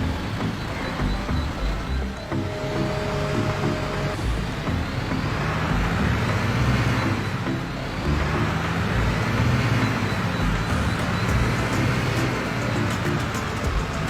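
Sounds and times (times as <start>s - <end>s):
background music with bass line: 0.0s - 14.0s
vehicle engine drone: 0.0s - 14.0s.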